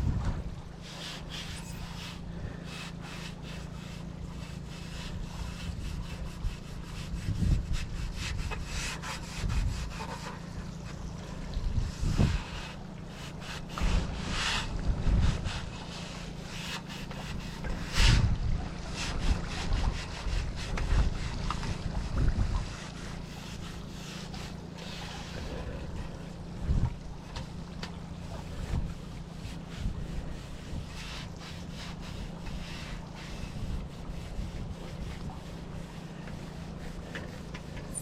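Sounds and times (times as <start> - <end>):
wind rumble on microphone: 0.0 - 38.0
scrubbing and scraping strokes: 0.1 - 38.0.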